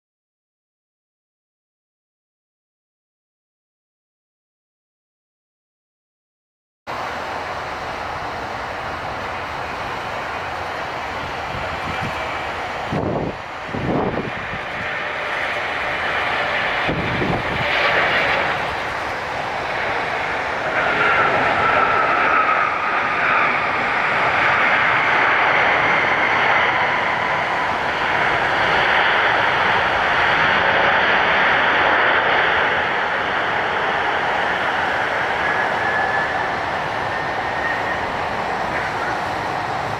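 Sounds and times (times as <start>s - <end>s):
engine whine: 6.9s - 39.9s
jet engines running: 6.9s - 39.9s.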